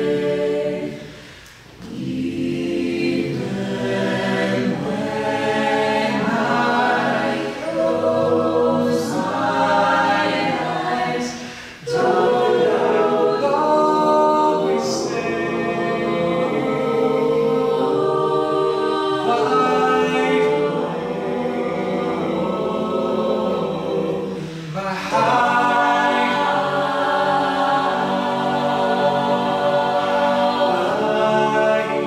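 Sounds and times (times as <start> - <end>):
a cappella group singing in harmony: 0.0 - 32.0.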